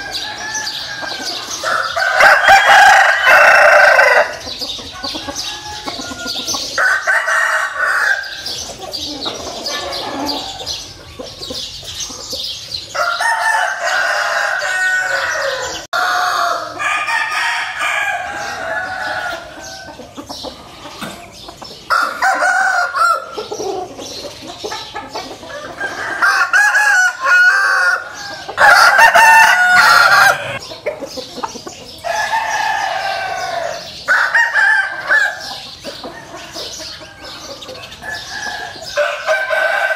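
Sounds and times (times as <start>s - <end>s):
chickens clucking: 0.0s - 39.9s
roosters crowing: 0.0s - 39.9s.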